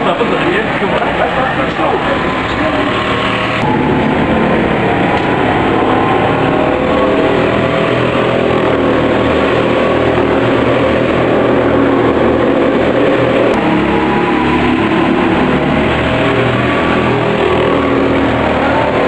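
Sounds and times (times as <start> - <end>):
go-kart engines running: 0.0 - 19.0.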